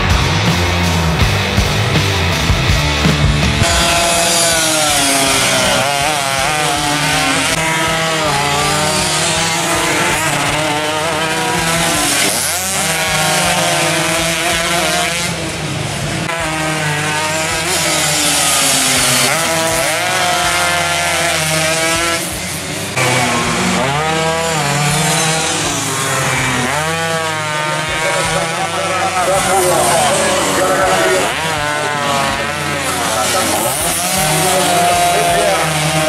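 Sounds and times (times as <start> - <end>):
racing motorcycles accelerating: 0.0 - 36.0.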